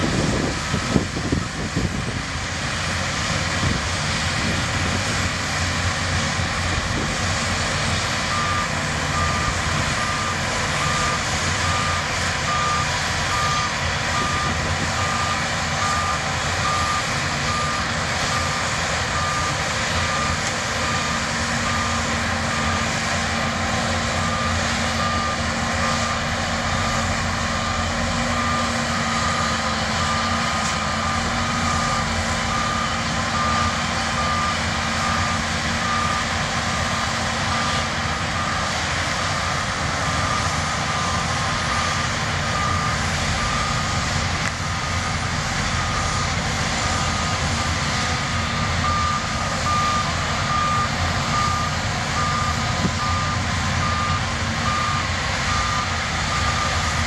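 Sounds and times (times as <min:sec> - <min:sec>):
bulldozer diesel engines: 0:00.0 - 0:57.0
reversing alarm beeping: 0:00.1 - 0:02.0, 0:06.1 - 0:57.0.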